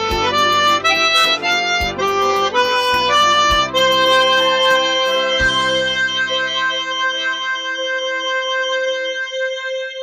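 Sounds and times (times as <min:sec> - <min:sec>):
harmonica holding a note: 0:00.0 - 0:10.0
musical accompaniment: 0:00.0 - 0:10.0.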